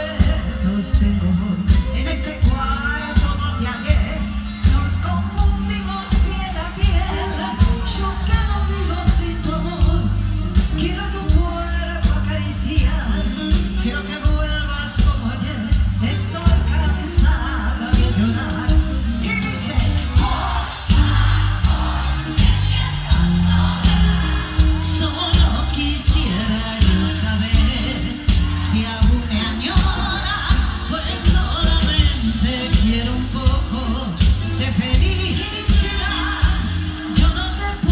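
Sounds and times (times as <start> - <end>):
heavy bass: 0.0 - 37.9
live pop band music: 0.0 - 37.9
person singing: 0.0 - 37.9
steady drum beat: 0.0 - 37.9.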